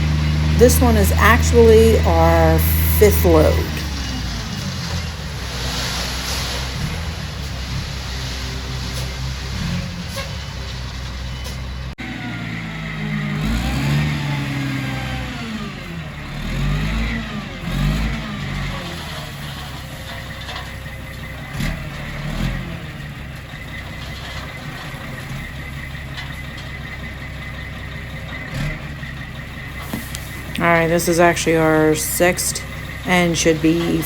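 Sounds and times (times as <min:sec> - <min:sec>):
dump truck engine revving: 0:00.0 - 0:34.0.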